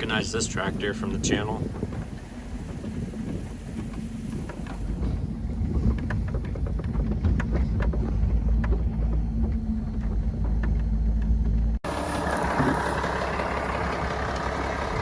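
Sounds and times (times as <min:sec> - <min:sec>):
wind buffeting microphone: 0:00.0 - 0:11.8, 0:12.4 - 0:15.0
tractor diesel engine running: 0:00.0 - 0:15.0.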